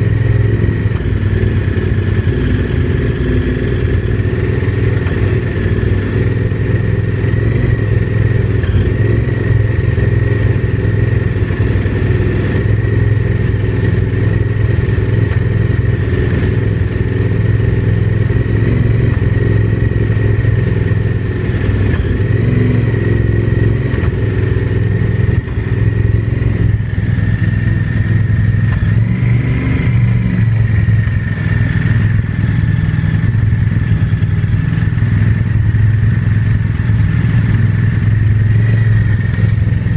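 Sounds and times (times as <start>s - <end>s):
high whine: 0.0s - 39.9s.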